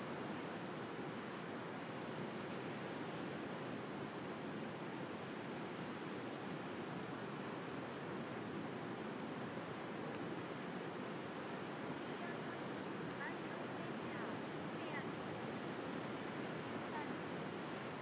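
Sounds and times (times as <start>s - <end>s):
bonfire crackling: 0.0s - 18.0s.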